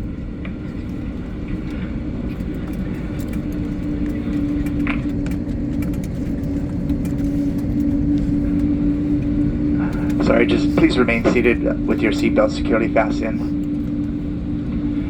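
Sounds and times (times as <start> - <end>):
airliner cabin rumble: 0.0 - 15.0
jet engine hum: 0.0 - 15.0.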